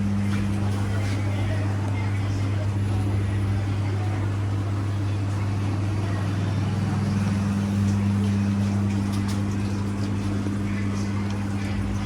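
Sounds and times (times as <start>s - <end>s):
machinery electric hum: 0.0s - 12.0s.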